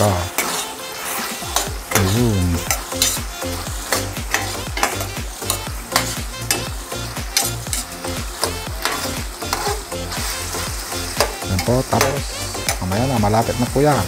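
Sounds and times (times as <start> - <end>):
metal spoon scraping a pan: 0.0 - 13.0
pork sizzling in a pot: 0.0 - 14.0.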